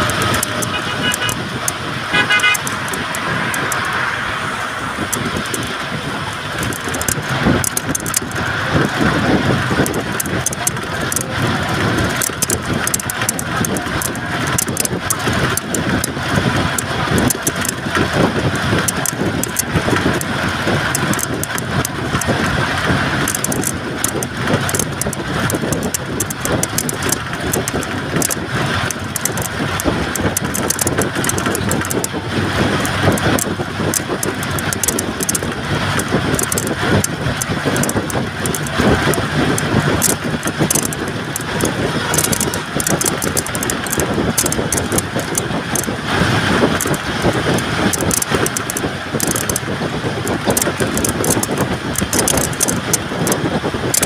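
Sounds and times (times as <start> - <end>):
quick irregular rattles: 0.0 - 54.0
vehicle engine and rolling noise: 0.0 - 54.0.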